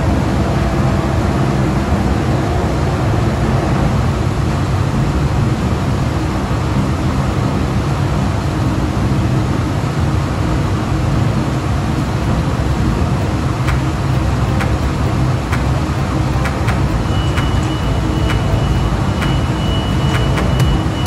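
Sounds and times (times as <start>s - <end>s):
heavy rumble of mill equipment: 0.0s - 21.0s
thin high steady tone: 0.0s - 21.0s.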